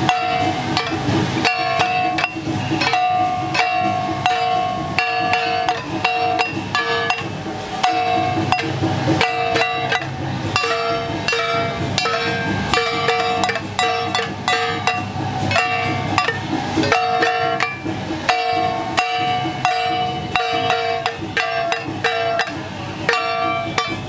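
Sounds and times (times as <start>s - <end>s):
drumming: 0.0s - 24.0s
metal gong strikes: 0.0s - 24.0s.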